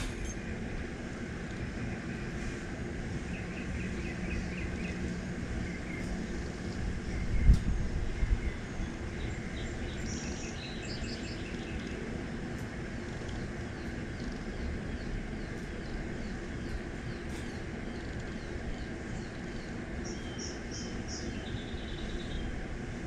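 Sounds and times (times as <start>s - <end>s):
distant traffic rumble: 0.0s - 23.0s
small birds chirping: 1.6s - 22.7s.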